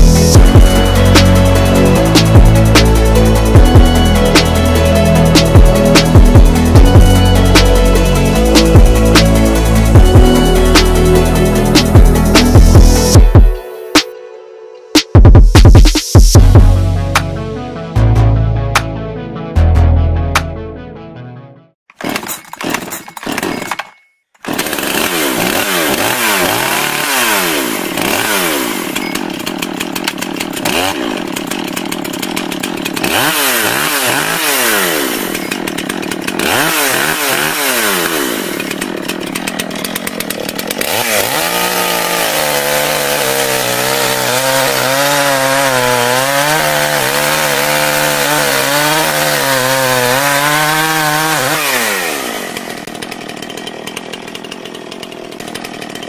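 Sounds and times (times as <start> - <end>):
chainsaw revving: 0.0 - 13.4, 21.9 - 56.0.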